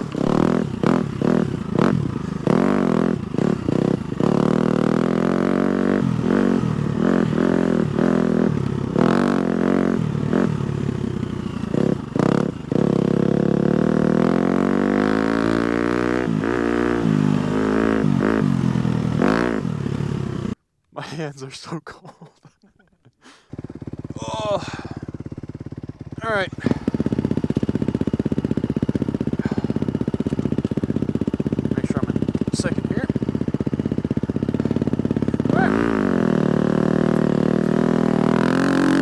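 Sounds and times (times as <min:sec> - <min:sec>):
dirt bike engine revving: 0:00.0 - 0:20.6, 0:23.4 - 0:39.0.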